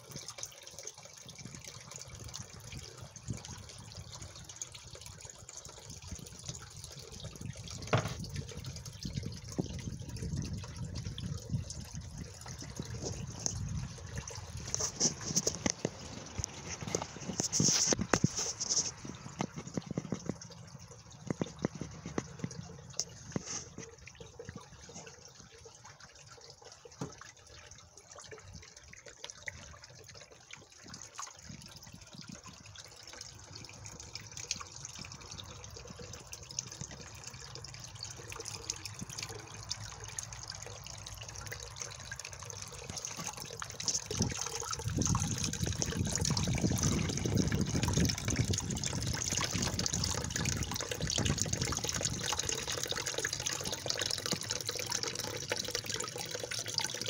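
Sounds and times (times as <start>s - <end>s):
water trickling over rocks: 0.0s - 57.0s.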